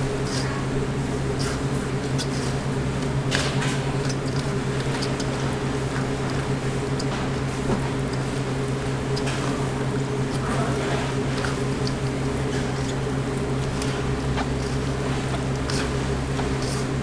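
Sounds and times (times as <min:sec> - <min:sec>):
machine hum: 0:00.0 - 0:17.0
spatula stirring sauce in a bowl: 0:01.3 - 0:17.0.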